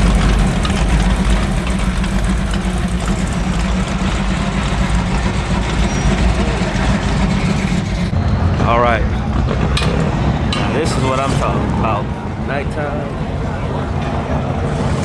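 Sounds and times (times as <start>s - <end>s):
car engines in traffic: 0.0s - 15.0s.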